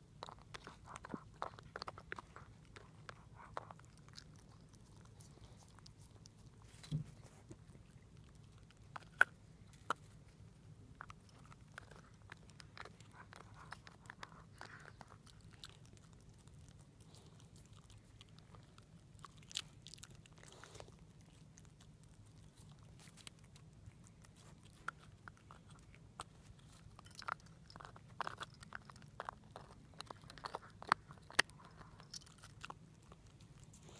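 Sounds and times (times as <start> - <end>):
dog gnawing hard chew: 0.0 - 33.9.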